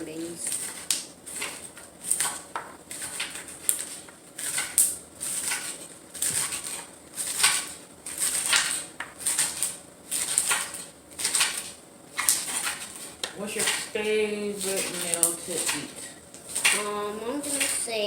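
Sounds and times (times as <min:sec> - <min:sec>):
knife chopping on cutting board: 0:00.4 - 0:18.0.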